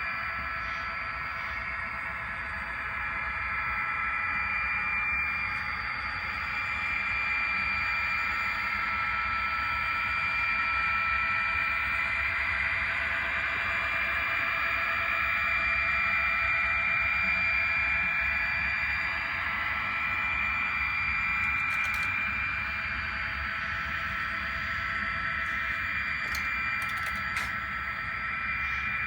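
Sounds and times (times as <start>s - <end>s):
model train whine and rumble: 0.0s - 29.0s.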